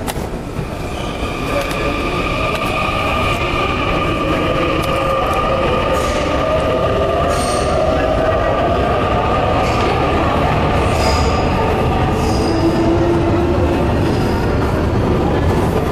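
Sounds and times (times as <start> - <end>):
subway train rumbling: 0.0 - 15.9.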